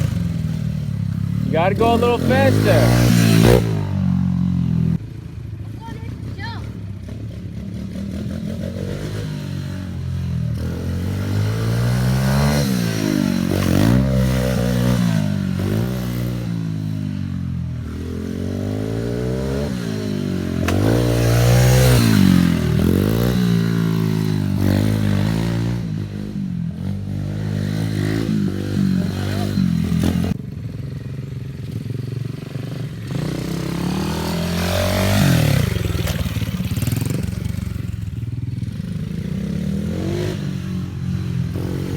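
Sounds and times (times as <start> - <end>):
motorbike engine revving: 0.0 - 5.0, 5.8 - 30.4, 32.6 - 41.9.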